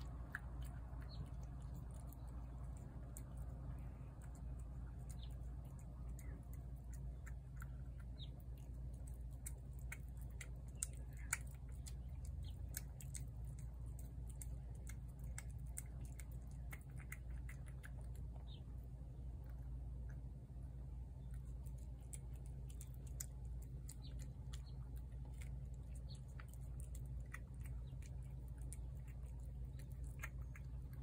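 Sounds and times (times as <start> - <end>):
cat chewing wet food: 0.0 - 31.0
steady low hum: 0.0 - 31.0.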